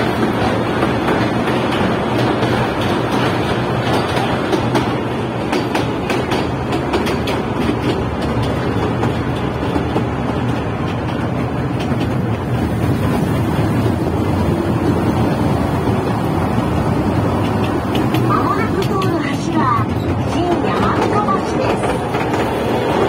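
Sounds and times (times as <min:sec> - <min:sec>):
train wheel clicks: 0:00.0 - 0:23.0
train wheels rumbling on rail: 0:00.0 - 0:23.0.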